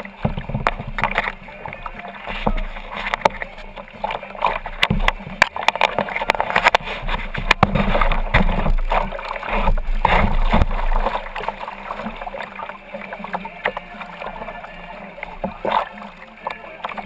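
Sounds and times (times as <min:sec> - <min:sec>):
river water rushing: 0:00.0 - 0:17.0
water splashing against kayak hull: 0:00.0 - 0:17.0.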